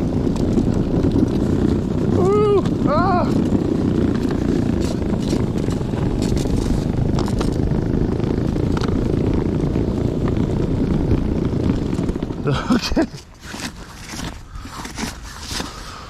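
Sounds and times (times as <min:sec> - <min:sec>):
electric snow bike driving: 0:00.0 - 0:16.0
tracks crackling in snow: 0:00.0 - 0:16.0.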